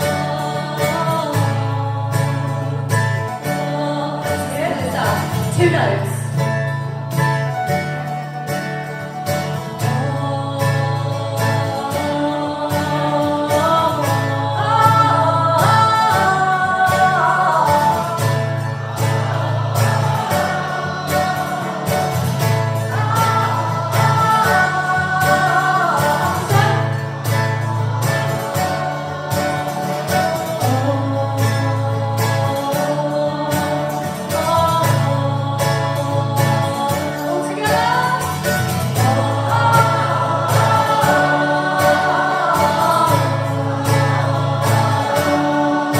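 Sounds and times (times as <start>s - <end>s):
crowd singing in harmony: 0.0s - 6.2s, 7.8s - 45.9s
strummed acoustic guitar: 0.0s - 45.9s.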